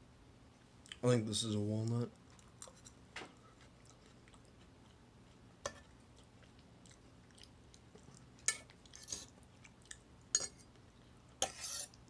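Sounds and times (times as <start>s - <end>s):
quiet chewing: 0.6s - 1.0s, 1.8s - 12.0s.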